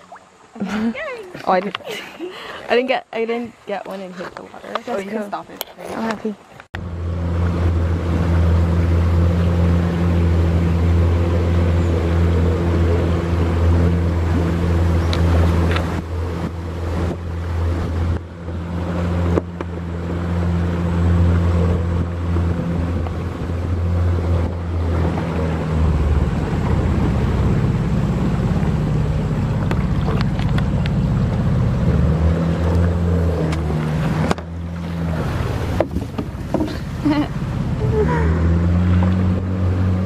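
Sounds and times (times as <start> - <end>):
rushing water: 0.0 - 40.0
outboard motor running: 4.0 - 40.0.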